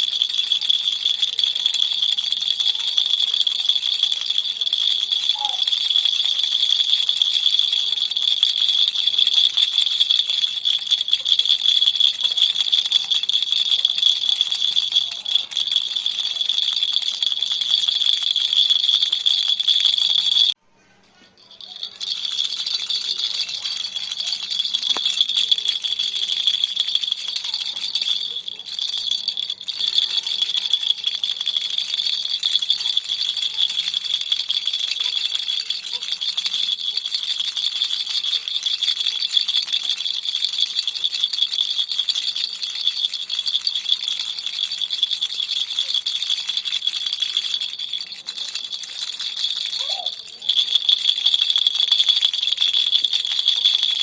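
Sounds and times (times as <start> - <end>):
baby rattle shaking: 0.0 - 54.0.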